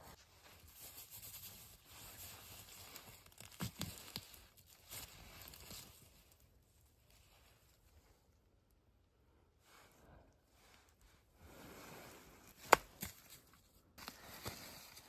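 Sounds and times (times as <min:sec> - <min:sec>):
rustling and crinkling handling noise: 0:00.0 - 0:08.4, 0:10.5 - 0:15.0.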